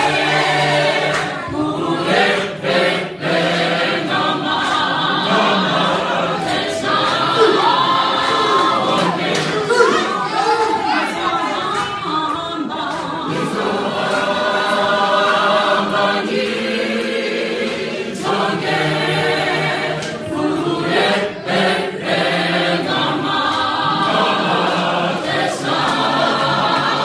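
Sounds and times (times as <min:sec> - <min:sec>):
choir singing a cappella: 0:00.0 - 0:27.0.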